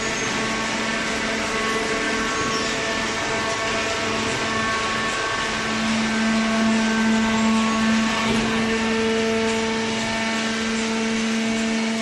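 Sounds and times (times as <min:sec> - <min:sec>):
hydraulic motor and pump humming: 0:00.0 - 0:12.0.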